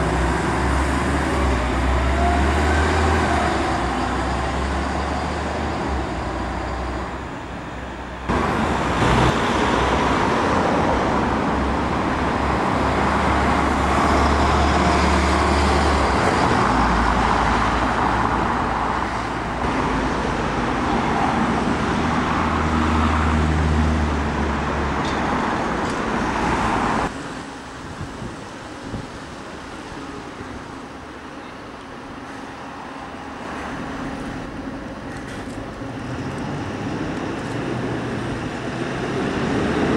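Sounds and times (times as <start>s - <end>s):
bus running slowly: 0.0s - 39.9s
buses and cars driving past: 0.0s - 39.9s.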